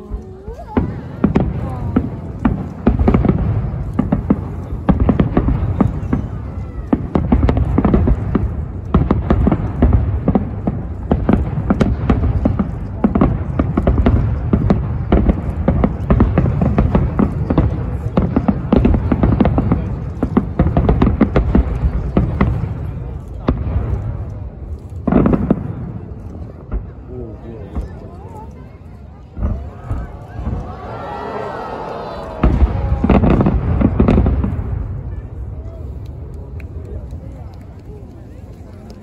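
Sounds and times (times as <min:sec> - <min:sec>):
fireworks bursting: 0:00.0 - 0:39.0.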